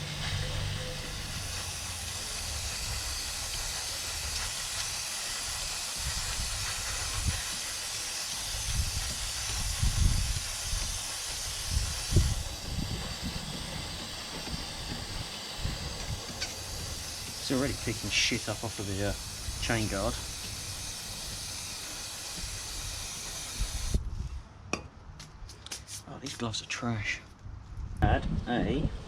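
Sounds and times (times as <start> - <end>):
aerosol spray hissing: 0.0 - 24.0.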